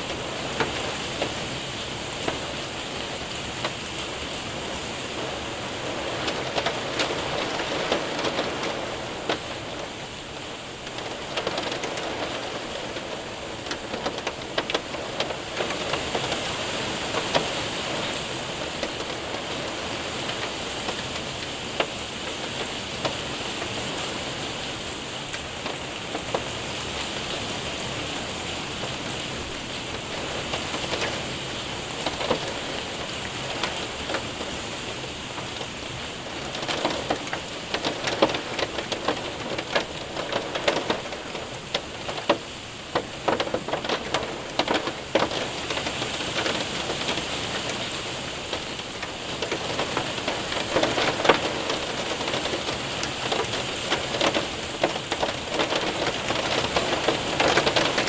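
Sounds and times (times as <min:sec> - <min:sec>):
hailstones ticking: 0:00.0 - 0:58.0
rain on window and roof: 0:00.0 - 0:58.0.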